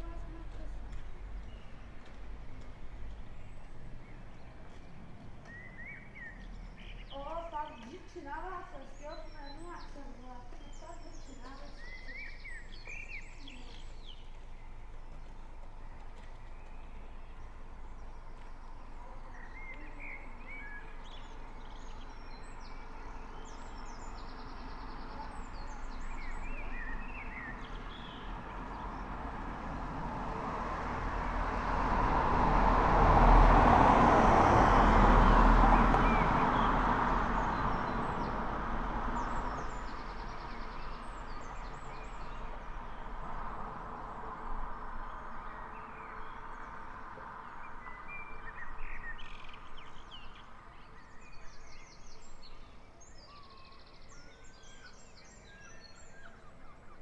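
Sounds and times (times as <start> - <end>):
small birds chirping: 0.0 - 31.7, 34.3 - 57.0
vehicle passing: 0.0 - 52.4.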